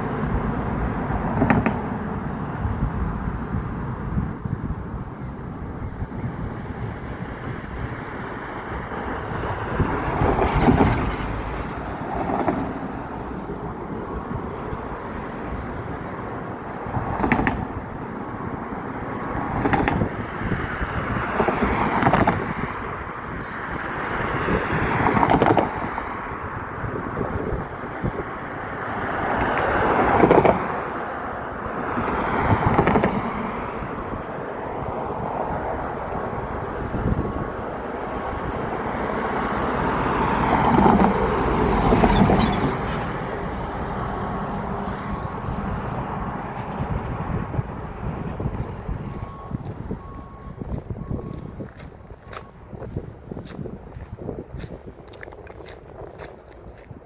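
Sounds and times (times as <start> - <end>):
steady traffic rush: 0.0 - 57.0
vehicles passing: 0.0 - 57.0.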